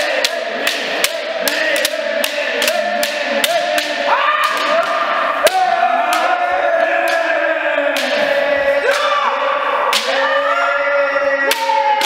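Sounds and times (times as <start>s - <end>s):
people yelling: 0.0s - 12.0s.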